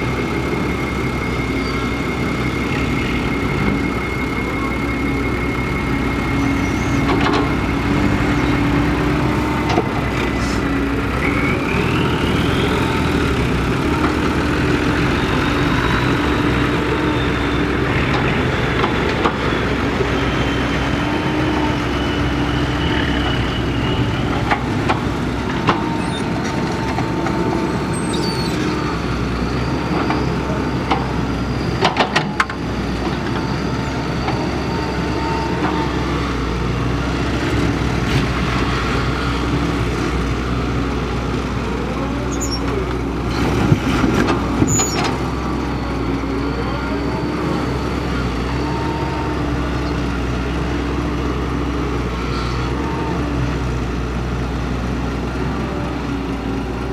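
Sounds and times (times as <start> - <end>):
excavator diesel engine with whine: 0.0 - 56.9.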